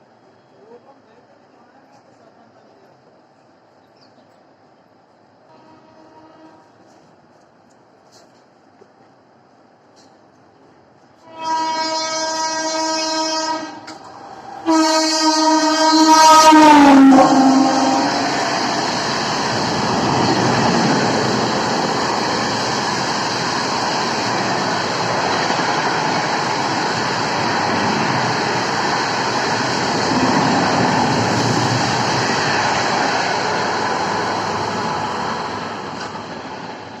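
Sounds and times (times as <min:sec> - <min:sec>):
train passing at speed: 0:00.0 - 0:37.0.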